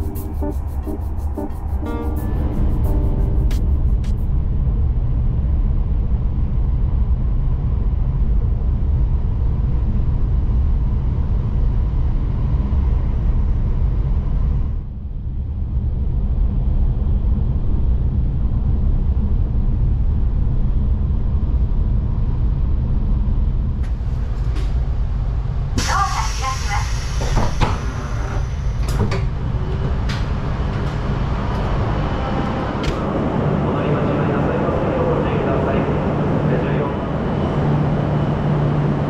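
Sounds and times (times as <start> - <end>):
high-speed train rumble from inside: 0.0 - 39.0.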